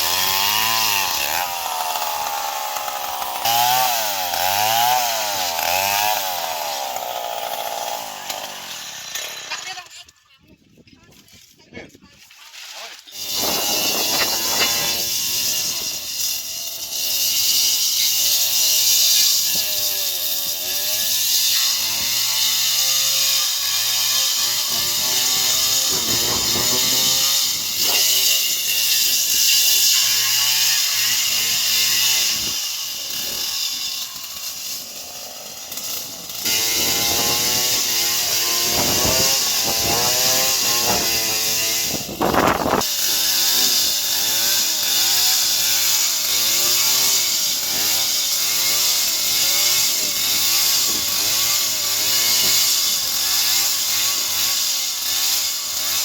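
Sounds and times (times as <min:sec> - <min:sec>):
chainsaw cutting wood: 0:00.0 - 0:10.0, 0:13.1 - 0:56.0.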